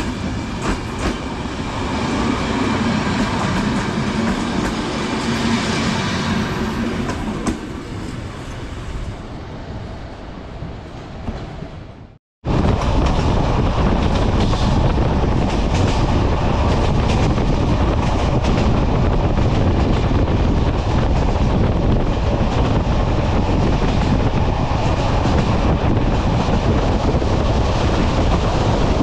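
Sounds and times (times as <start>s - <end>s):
train rumble and rushing air: 0.0s - 29.0s.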